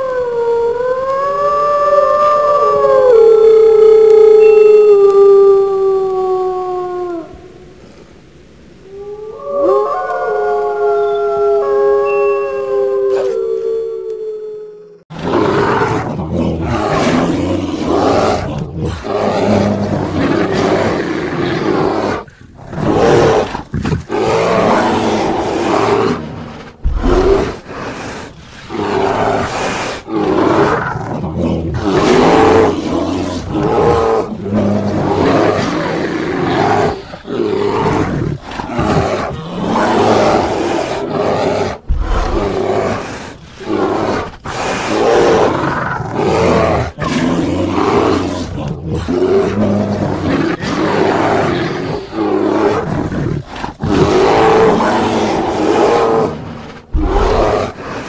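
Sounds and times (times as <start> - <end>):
bear roaring and growling: 0.0 - 8.1, 8.8 - 58.0.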